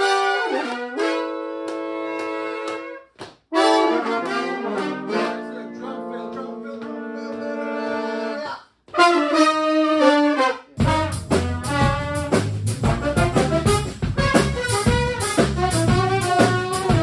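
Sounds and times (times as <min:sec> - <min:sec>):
horn section playing chords: 0:00.0 - 0:17.0.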